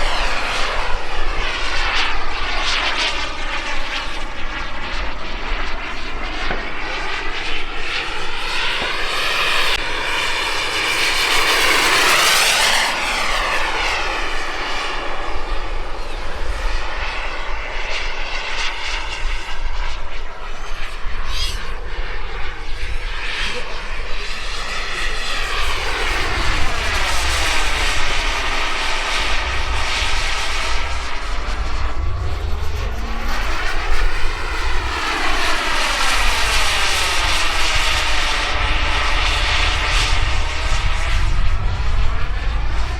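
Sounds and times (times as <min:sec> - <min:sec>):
model jet turbine whining past: 0:00.0 - 0:42.9.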